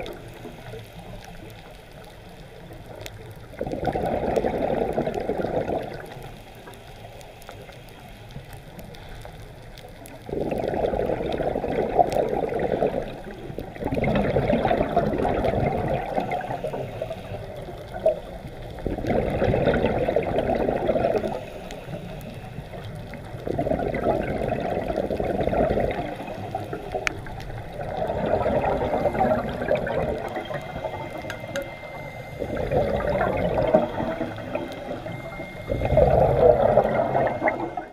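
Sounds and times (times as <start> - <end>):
gurgling exhaust bubbles underwater: 0.0 - 37.9.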